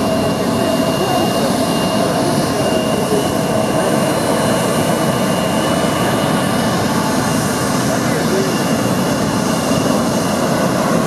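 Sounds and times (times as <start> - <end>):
jet engine whine: 0.0 - 11.0
jet engines rushing: 0.0 - 11.0.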